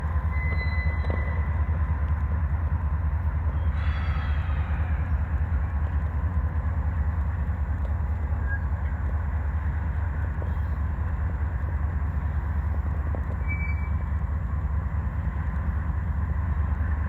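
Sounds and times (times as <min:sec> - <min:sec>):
faint clicks from train cars: 0:00.0 - 0:17.0
freight train rumbling: 0:00.0 - 0:17.0.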